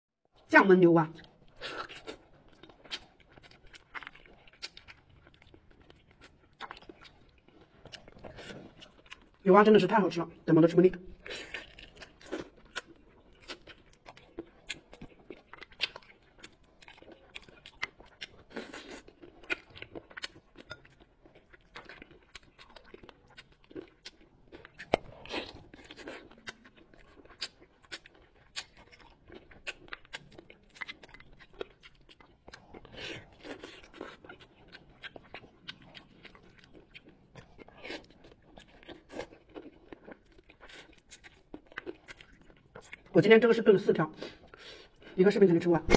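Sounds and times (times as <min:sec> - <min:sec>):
wet chewing and smacking: 0:01.1 - 0:45.2.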